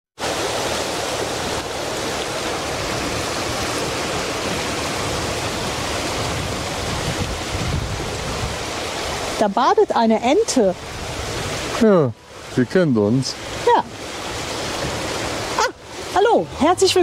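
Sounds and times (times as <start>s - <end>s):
river water rushing over stones: 0.2s - 17.0s.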